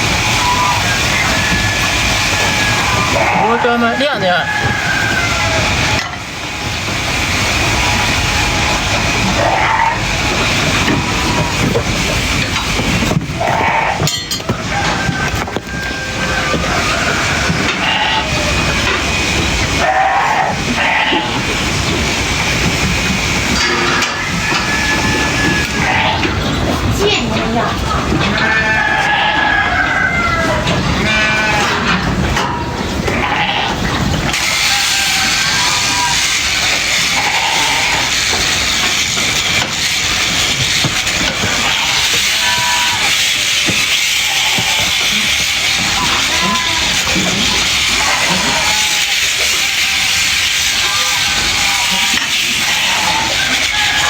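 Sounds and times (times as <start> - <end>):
electric sheep shears whining: 0.0 - 54.0.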